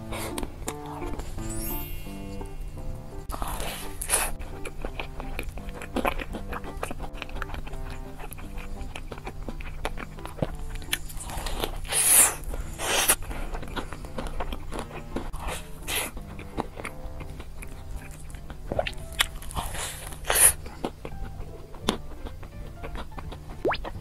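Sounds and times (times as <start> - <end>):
soft chewing: 0.0 - 1.4, 2.1 - 24.0.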